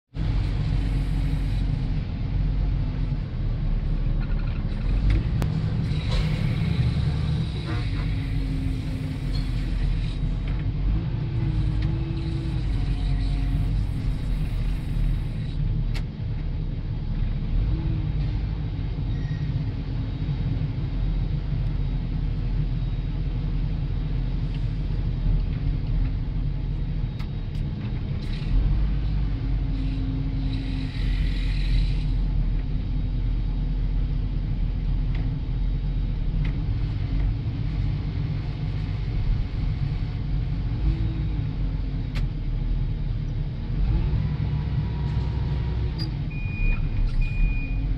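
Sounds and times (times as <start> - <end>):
diesel engine low rumble: 0.0 - 47.9.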